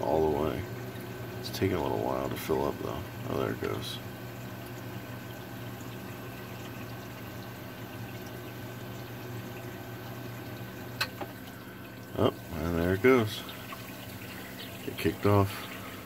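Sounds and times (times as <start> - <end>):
low pump hum: 0.0 - 16.0.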